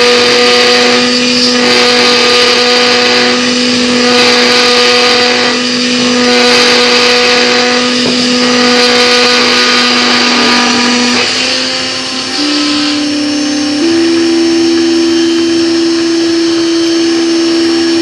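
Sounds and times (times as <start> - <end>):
micro mill cutter whining: 0.0 - 18.0.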